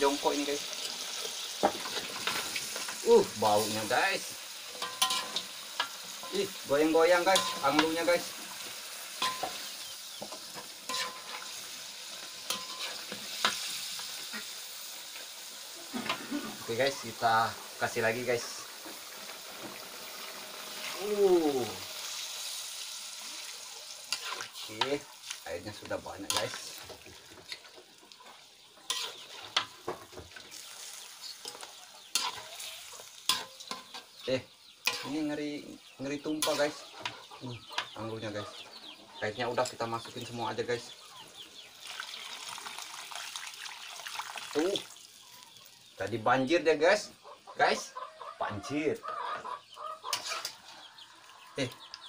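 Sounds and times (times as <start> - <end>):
cooking liquid hissing: 0.0 - 38.0, 39.4 - 46.0
chicken sizzling in a wok: 0.0 - 47.0, 50.0 - 52.0.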